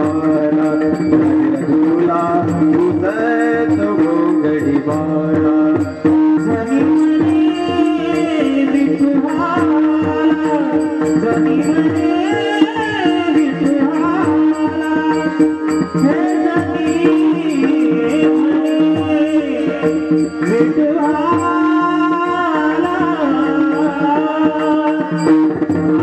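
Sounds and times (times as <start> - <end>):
hand drum: 0.0 - 26.0
ticking beat: 0.0 - 26.0.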